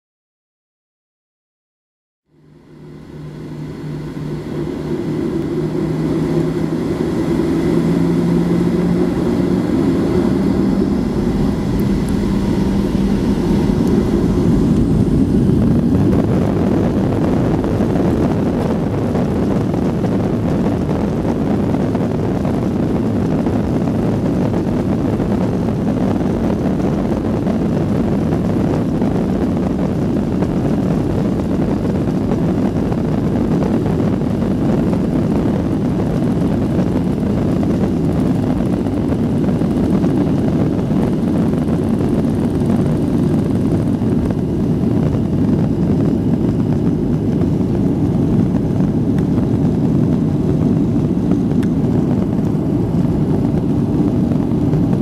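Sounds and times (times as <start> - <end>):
jet engines spooling up: 2.4 - 55.0
loud rushing of takeoff roll: 2.5 - 55.0.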